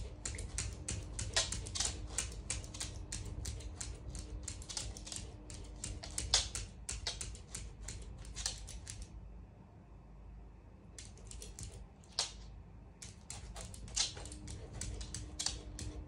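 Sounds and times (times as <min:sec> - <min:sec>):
dog claws clicking on glass: 0:00.0 - 0:09.1, 0:11.0 - 0:12.4, 0:13.0 - 0:16.0.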